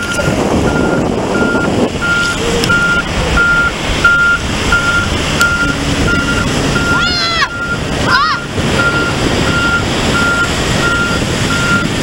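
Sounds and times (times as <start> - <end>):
engine noise: 0.0 - 12.0
reversing alarm beeping: 0.0 - 12.0
surf rushing: 0.0 - 12.0.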